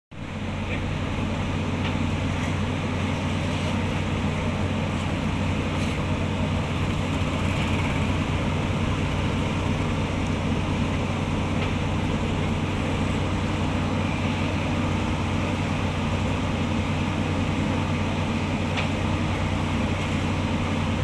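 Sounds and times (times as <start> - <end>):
heavy machine engine droning: 0.1 - 21.0.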